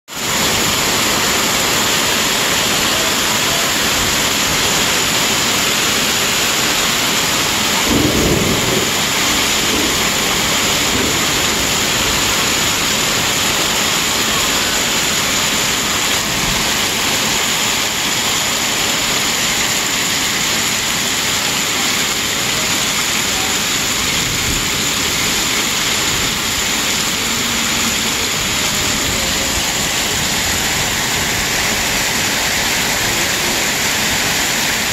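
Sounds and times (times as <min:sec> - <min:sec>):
hail and rain pelting: 0:00.1 - 0:34.9.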